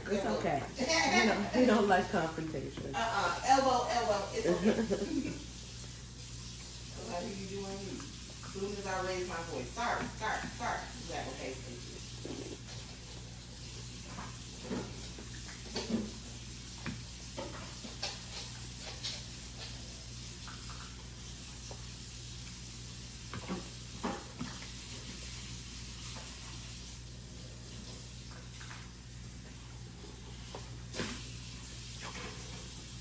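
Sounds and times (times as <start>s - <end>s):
wet eating noises: 4.1s - 33.0s.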